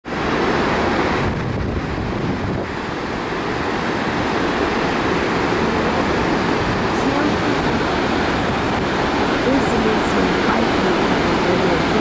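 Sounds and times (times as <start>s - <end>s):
ship wake churning: 0.0s - 12.0s
wind across microphone: 0.2s - 12.0s.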